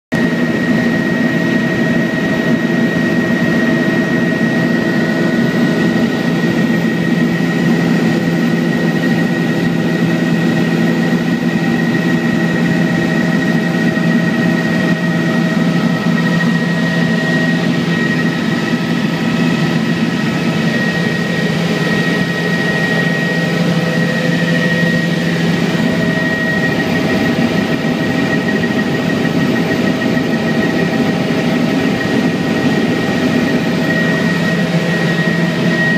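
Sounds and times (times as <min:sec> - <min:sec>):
helicopter cabin drone: 0:00.1 - 0:35.9
thin whine: 0:00.2 - 0:35.9.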